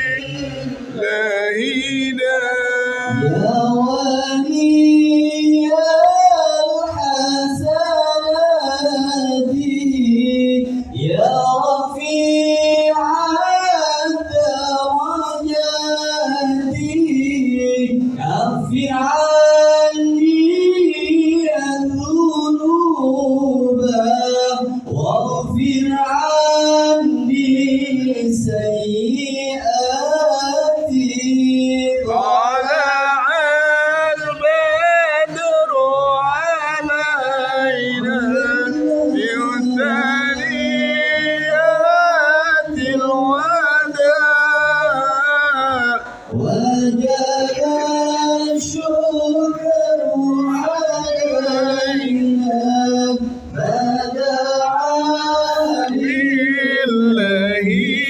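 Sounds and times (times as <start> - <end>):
devotional singing: 0.0 - 58.0.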